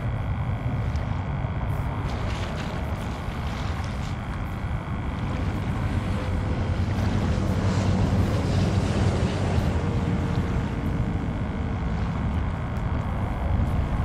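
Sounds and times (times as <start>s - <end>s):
distant engine droning: 0.0s - 14.0s
wind rumble on microphone: 0.0s - 14.0s.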